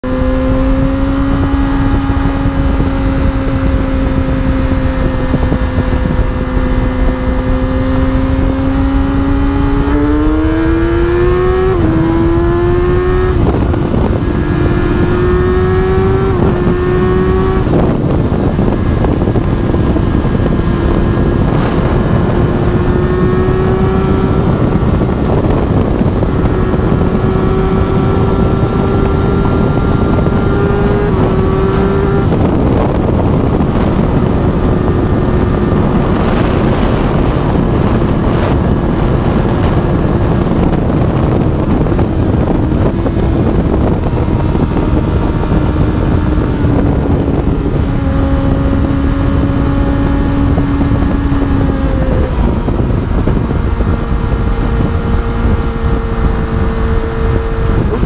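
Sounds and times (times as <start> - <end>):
motorcycle engine revving: 0.0 - 58.0
wind noise on microphone: 0.0 - 58.0.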